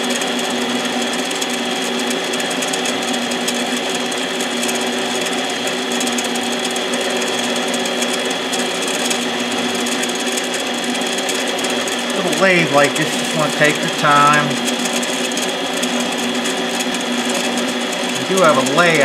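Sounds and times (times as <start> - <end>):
lathe running with whine: 0.0 - 19.0.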